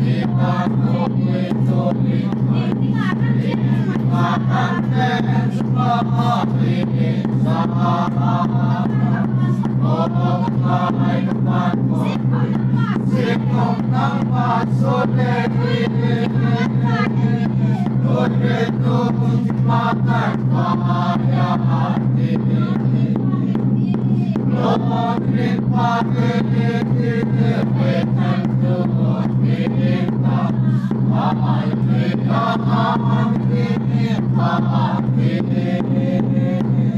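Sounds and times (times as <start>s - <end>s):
congregation singing a hymn: 0.0s - 23.4s, 24.4s - 36.9s
steady beat: 0.0s - 36.9s
steady low hum: 0.0s - 36.9s.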